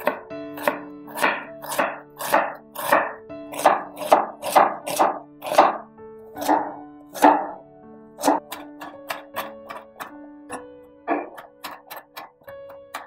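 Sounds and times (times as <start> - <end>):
knife chopping onion on board: 0.0 - 5.8, 6.4 - 7.6, 8.2 - 10.2, 11.1 - 13.0.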